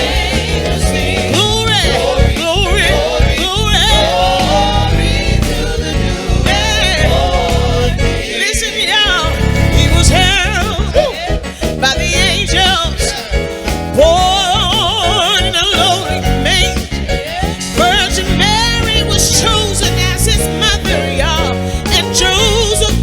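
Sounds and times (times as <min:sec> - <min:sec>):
band accompaniment with bass: 0:00.0 - 0:23.0
person singing gospel: 0:00.0 - 0:23.0.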